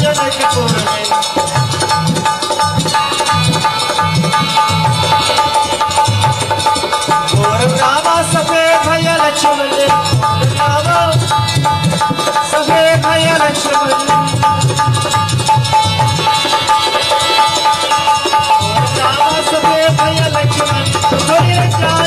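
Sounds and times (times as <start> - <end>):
tabla rhythm: 0.0 - 22.0.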